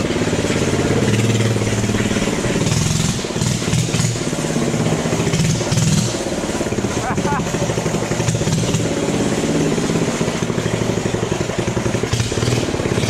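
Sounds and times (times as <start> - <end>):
minibike engine revving: 0.0 - 13.0.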